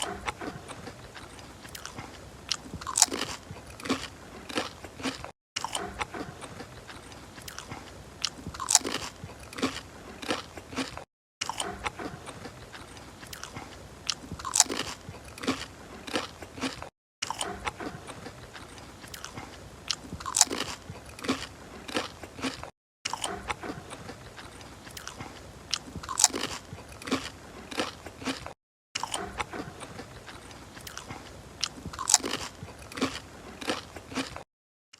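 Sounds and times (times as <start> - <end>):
crunchy food chewing: 0.0 - 34.5.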